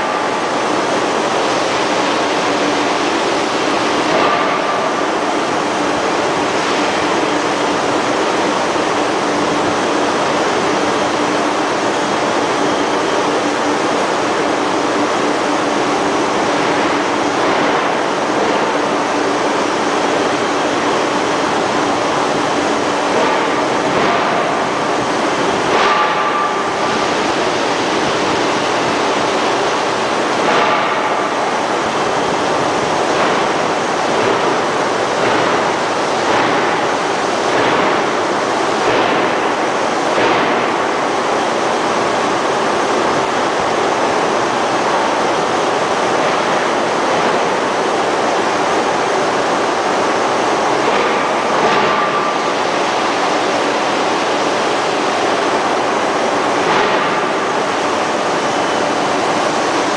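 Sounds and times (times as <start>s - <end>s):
ring rolling mill rushing noise: 0.0s - 59.9s.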